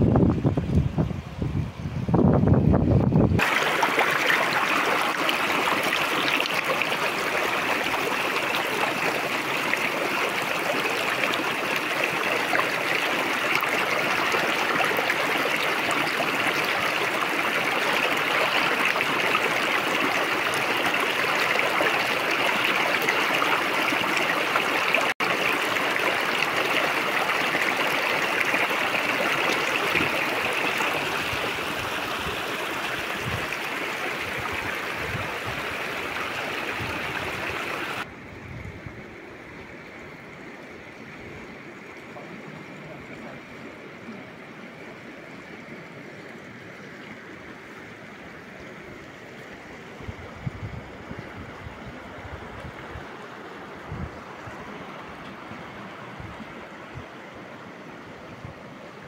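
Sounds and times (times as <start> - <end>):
river water rushing: 3.4 - 38.1, 39.2 - 59.0.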